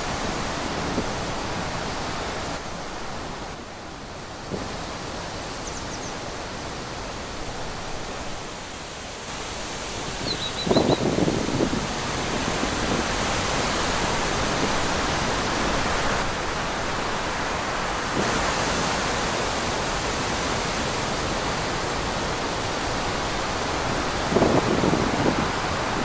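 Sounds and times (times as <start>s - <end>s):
wind rushing through trees: 0.0s - 26.0s.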